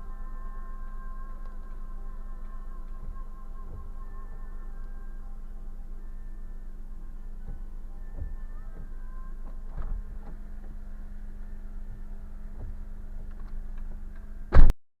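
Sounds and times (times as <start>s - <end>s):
car interior hum and rumble: 0.0s - 14.7s.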